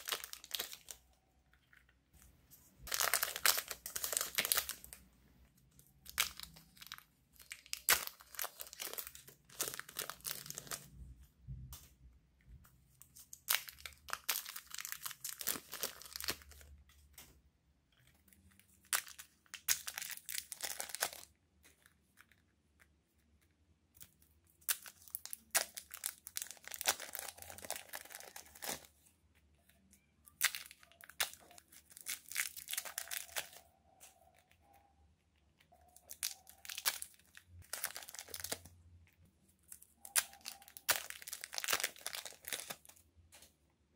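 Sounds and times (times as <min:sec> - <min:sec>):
plastic wrappers crinkling and tearing: 0:00.0 - 0:02.0, 0:02.8 - 0:11.0, 0:13.0 - 0:16.9, 0:18.0 - 0:22.6, 0:24.0 - 0:29.0, 0:29.6 - 0:34.9, 0:35.5 - 0:43.5.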